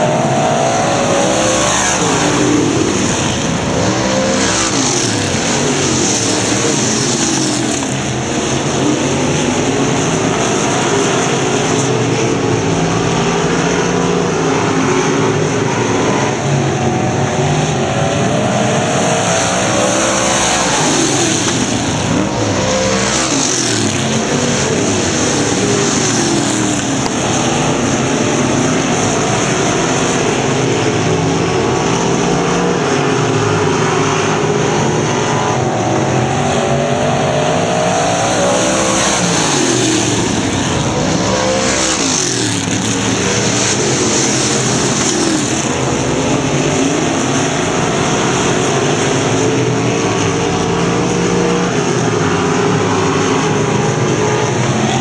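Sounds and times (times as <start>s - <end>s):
cars passing close by: 0.0s - 55.0s
stock car engines revving: 0.0s - 55.0s.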